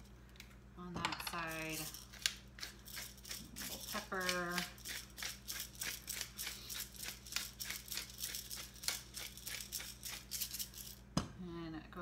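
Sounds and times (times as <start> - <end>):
pepper mill grinding clicks: 1.2 - 10.9.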